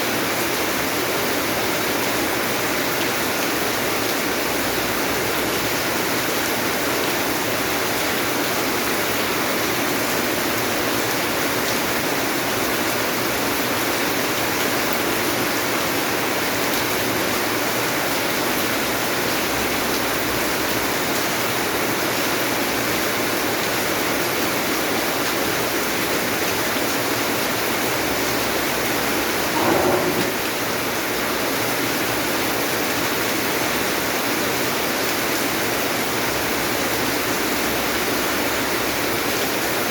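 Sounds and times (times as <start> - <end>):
heavy rain falling: 0.8 - 39.8.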